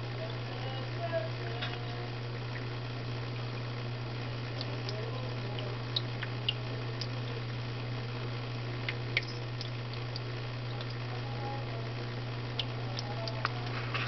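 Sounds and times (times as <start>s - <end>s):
constant hiss: 0.0s - 14.0s
low hum: 0.0s - 14.0s.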